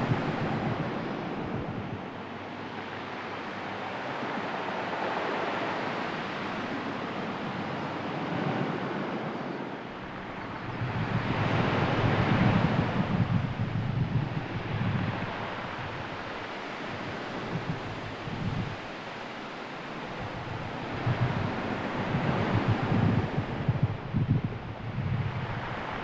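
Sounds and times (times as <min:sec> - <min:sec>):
sea waves washing on shore: 0:00.0 - 0:26.0
wind: 0:00.0 - 0:26.0.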